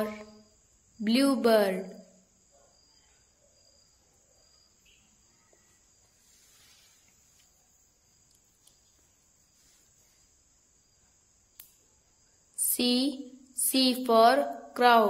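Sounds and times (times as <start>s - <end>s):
faint high-pitched hiss: 0.0s - 15.0s.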